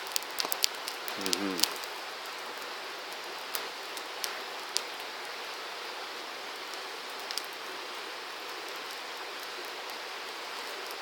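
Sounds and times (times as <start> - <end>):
steady hiss: 0.0 - 11.0
wood fire crackling and popping: 0.0 - 11.0.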